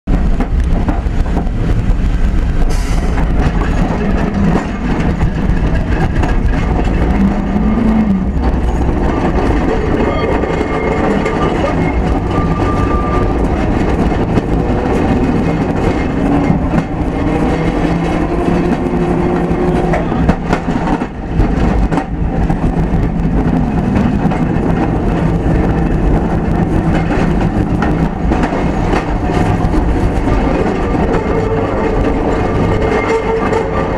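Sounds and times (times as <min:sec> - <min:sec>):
wheels knocking on rails: 0:00.1 - 0:33.9.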